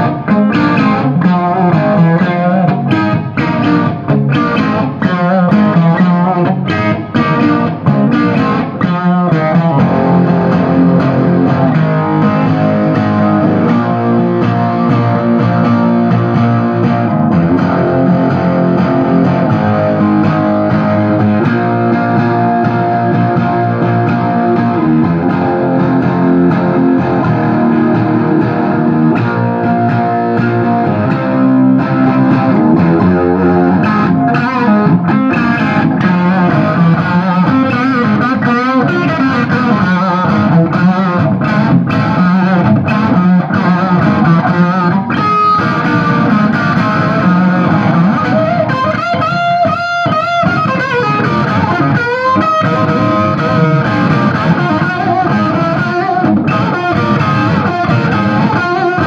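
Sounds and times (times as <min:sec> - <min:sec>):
distorted electric guitar riff: 0:00.0 - 0:59.0.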